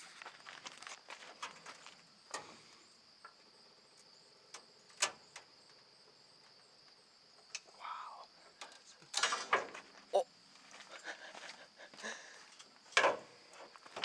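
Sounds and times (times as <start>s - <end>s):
insect chirring: 0.0s - 14.0s.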